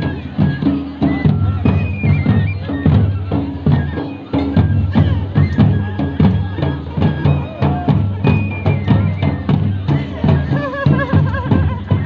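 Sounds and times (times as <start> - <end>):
drums beating quick rhythm: 0.0 - 12.0
reed pipe melody: 0.0 - 12.0.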